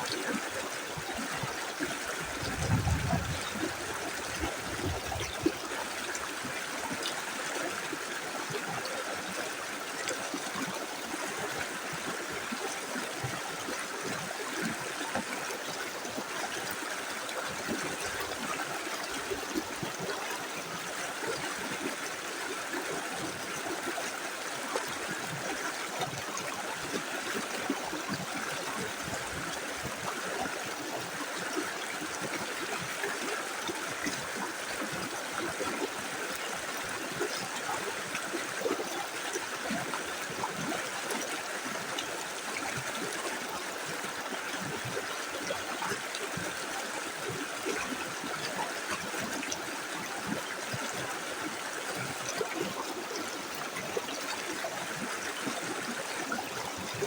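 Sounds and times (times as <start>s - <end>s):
river flowing over stones: 0.0s - 57.0s.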